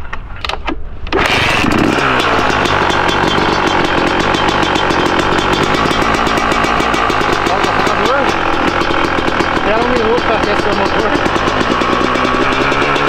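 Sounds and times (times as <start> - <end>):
dirt bike engine running: 1.2 - 13.0
kick-start clacks: 1.2 - 13.0.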